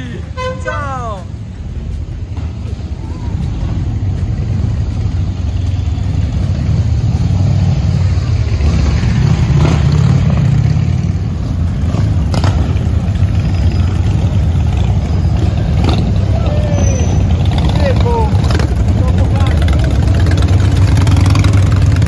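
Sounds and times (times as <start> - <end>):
motorcycles riding past: 2.4 - 22.0.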